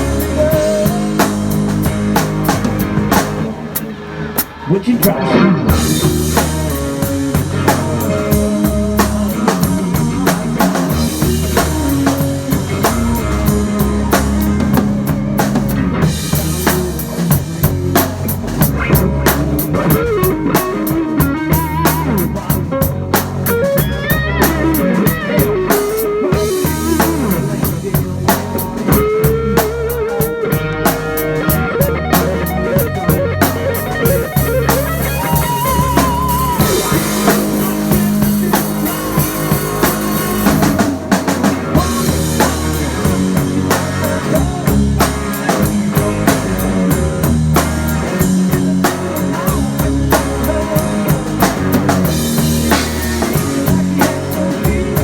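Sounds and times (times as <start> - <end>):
bass line: 0.0 - 55.0
drum kit beat with rimshots: 0.0 - 55.0
electric guitar melodic lead: 0.0 - 55.0.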